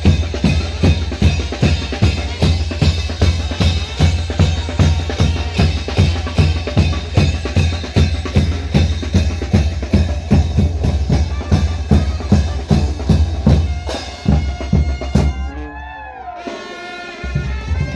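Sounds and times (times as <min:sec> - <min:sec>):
bass drum and snare beat: 0:00.0 - 0:15.5, 0:17.2 - 0:17.9
brass band playing: 0:00.0 - 0:17.9.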